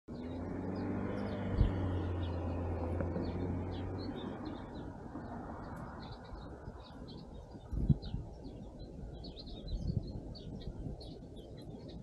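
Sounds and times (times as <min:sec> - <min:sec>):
background rumble: 0:00.1 - 0:12.0
small songbirds chirping: 0:00.1 - 0:12.0.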